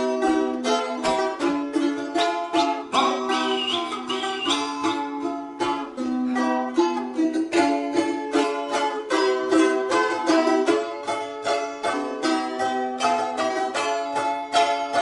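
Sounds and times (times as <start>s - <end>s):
balalaikas strumming chords: 0.0s - 15.0s
plucked balalaika melody: 0.0s - 15.0s.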